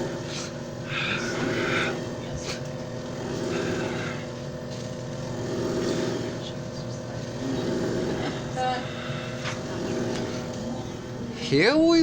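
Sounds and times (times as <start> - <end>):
machine motor hum: 0.0 - 12.0.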